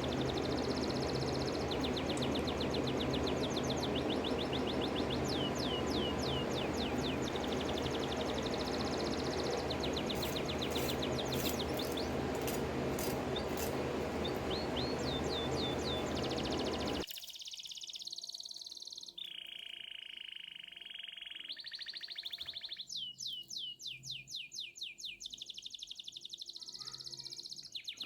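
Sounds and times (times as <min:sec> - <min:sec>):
songbird trilling and chirping: 0:00.0 - 0:28.0.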